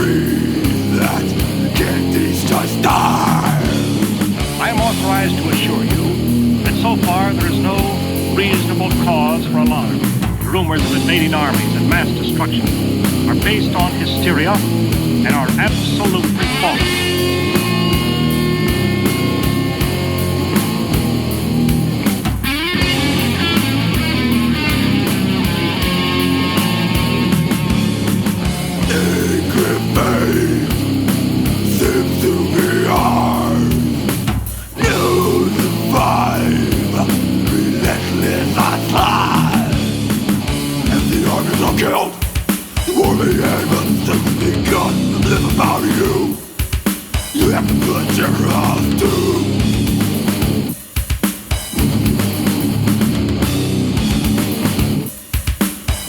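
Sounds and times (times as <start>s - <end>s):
death metal band playing: 0.0s - 56.0s.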